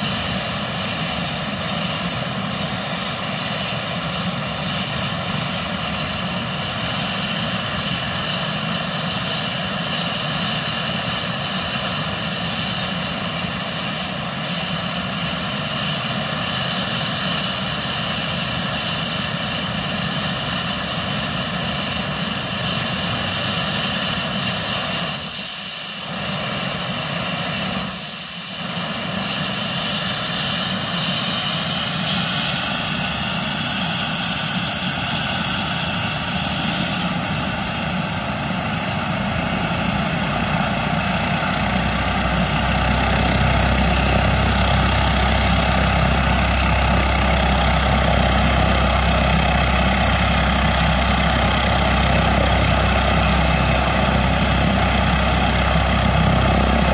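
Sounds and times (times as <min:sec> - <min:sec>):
helicopter engine roar: 0:00.0 - 0:56.9
helicopter turbine whine: 0:00.0 - 0:56.9.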